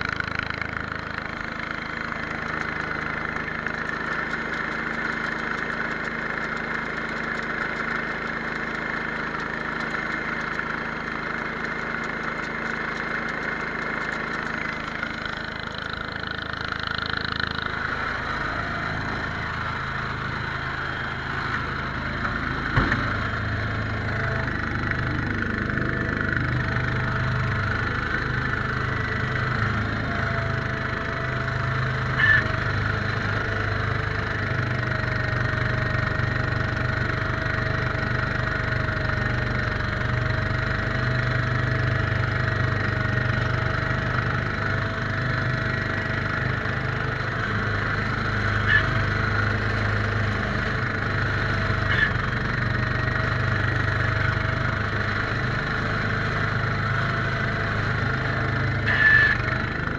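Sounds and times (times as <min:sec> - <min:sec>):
steady whine: 0:00.0 - 0:59.9
tractor engine running: 0:00.0 - 0:59.9.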